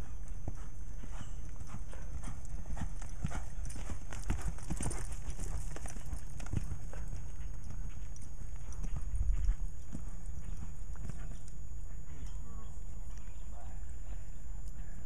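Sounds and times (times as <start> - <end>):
horse hoofbeats on dirt: 0.0 - 14.3.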